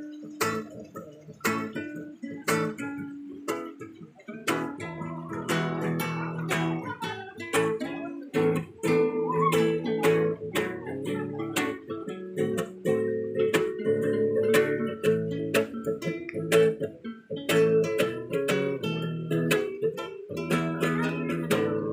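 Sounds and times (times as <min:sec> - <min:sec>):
acoustic guitars strumming: 0:00.0 - 0:21.9.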